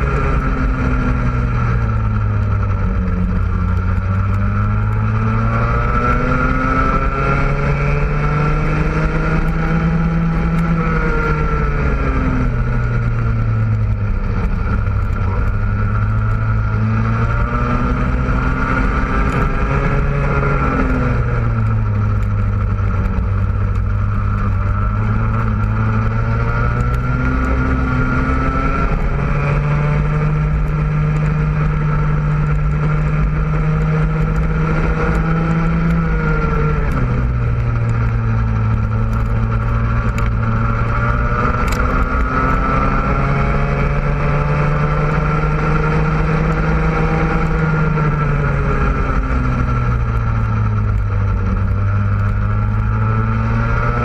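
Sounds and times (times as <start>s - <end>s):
kart engine at racing speed: 0.0s - 54.0s.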